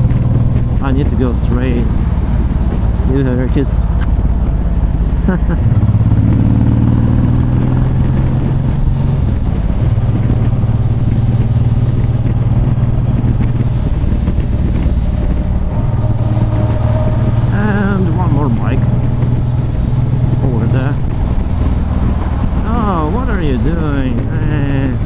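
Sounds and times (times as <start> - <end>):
motorcycle engine running: 0.0 - 25.0
wind and road noise: 0.0 - 25.0.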